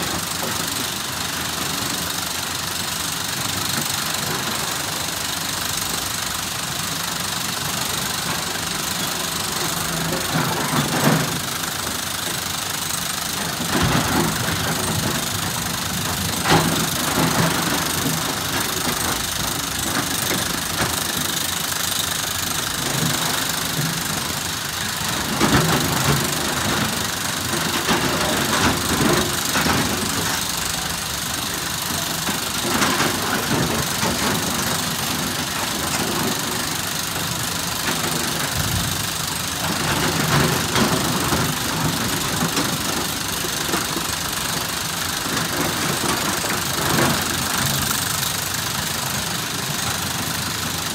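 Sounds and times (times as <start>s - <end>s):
excavator diesel engine running: 0.0s - 50.9s
machine knocking and clatter: 0.0s - 50.9s.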